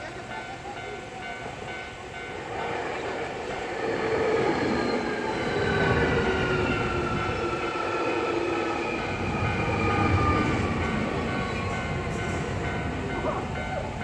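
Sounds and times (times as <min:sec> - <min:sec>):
level crossing warning bell: 0:00.0 - 0:14.0
train arriving with falling whine: 0:00.1 - 0:14.0.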